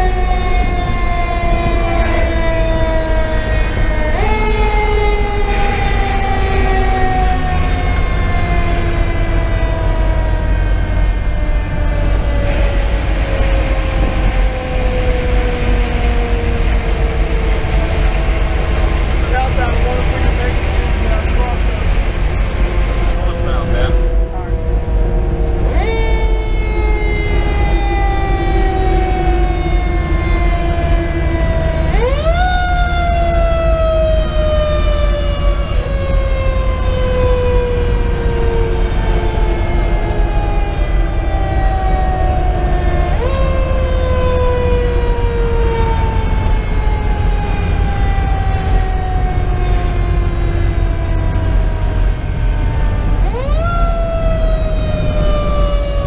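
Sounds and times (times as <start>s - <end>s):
mechanical siren wailing: 0.0s - 56.0s
truck rumble: 0.0s - 56.0s.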